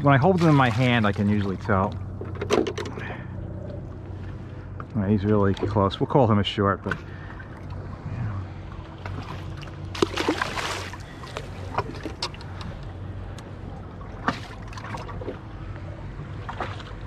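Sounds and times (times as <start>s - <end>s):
handling noise on a boat: 0.0s - 17.0s
low steady hum: 0.0s - 17.0s.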